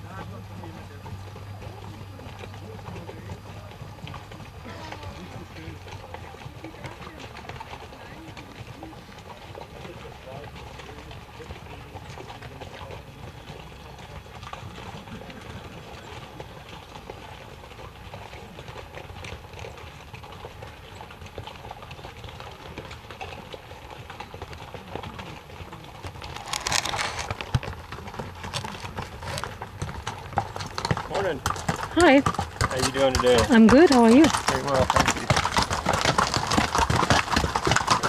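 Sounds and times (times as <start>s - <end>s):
mule hooves clopping on rocky trail: 0.0s - 38.0s.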